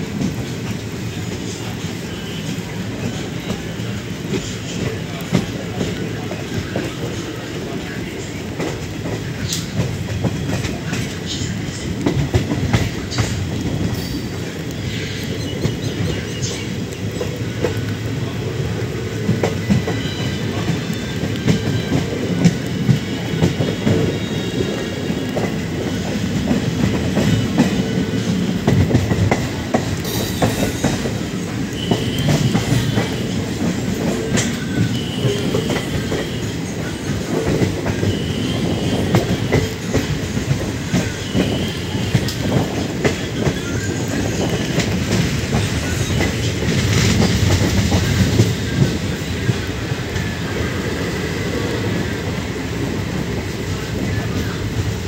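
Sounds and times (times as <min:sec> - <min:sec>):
train rumbling over rails: 0:00.0 - 0:55.0.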